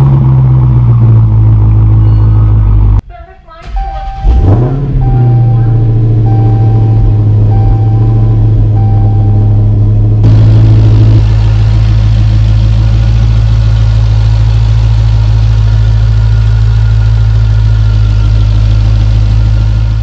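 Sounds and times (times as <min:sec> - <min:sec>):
car engine idling: 0:03.6 - 0:20.0.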